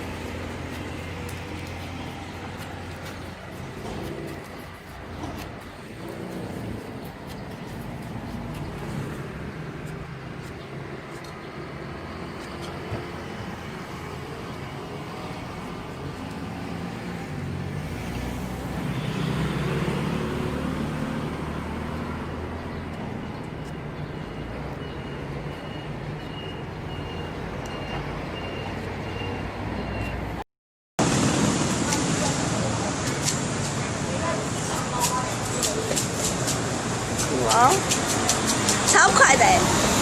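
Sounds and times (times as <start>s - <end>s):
street traffic passing: 0.0s - 30.4s, 31.0s - 40.0s.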